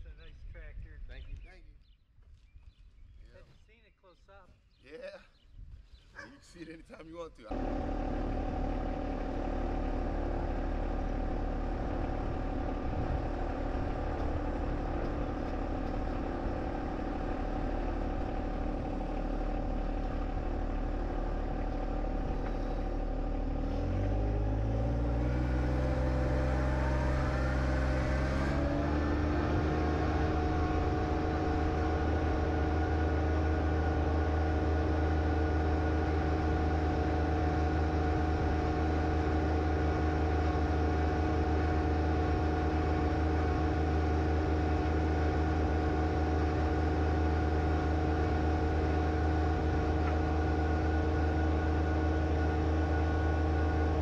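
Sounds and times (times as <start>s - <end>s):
tractor diesel engine running: 7.5s - 54.0s.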